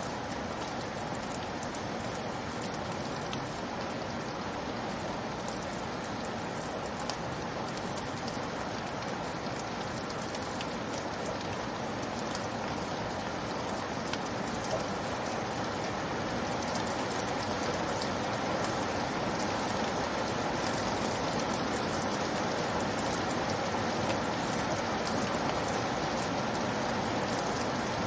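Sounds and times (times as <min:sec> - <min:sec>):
steady rain hissing: 0:00.0 - 0:28.0
raindrop ticks: 0:00.1 - 0:28.0.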